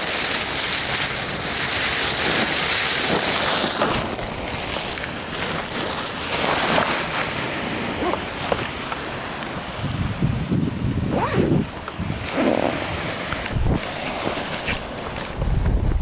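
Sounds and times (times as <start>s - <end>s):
sea waves washing on shingle: 0.0s - 10.8s, 11.6s - 16.0s.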